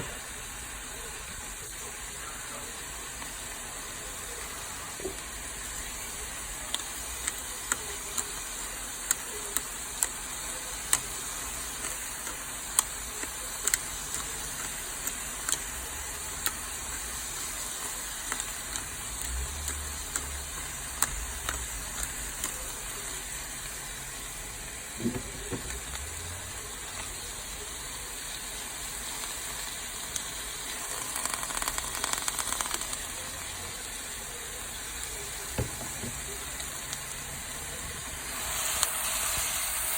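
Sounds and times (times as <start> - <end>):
vegetables sizzling in a hot pan: 0.0 - 39.9.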